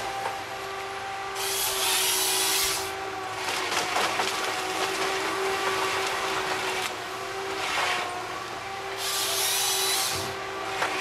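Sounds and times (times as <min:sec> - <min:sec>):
forestry harvester working a log: 0:00.0 - 0:11.0.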